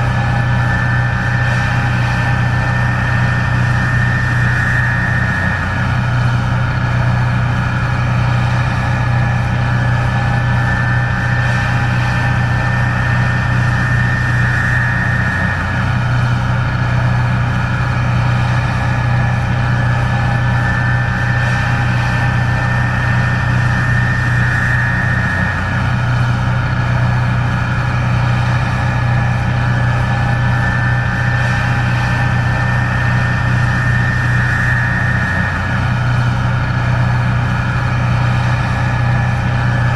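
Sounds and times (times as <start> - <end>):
combine engine drone: 0.0 - 39.9
high whine: 0.0 - 39.9.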